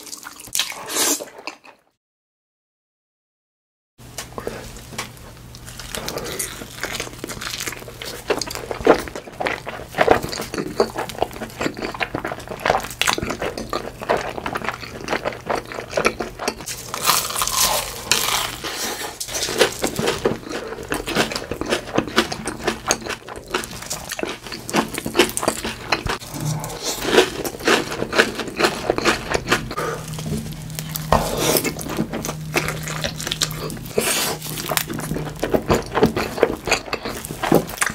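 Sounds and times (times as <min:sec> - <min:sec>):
chewing and crunching: 0:04.4 - 0:37.9.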